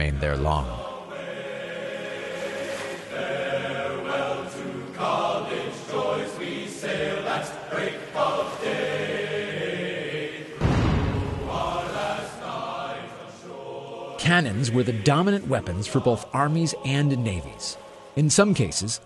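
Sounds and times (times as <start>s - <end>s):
choir singing: 0.6s - 19.0s.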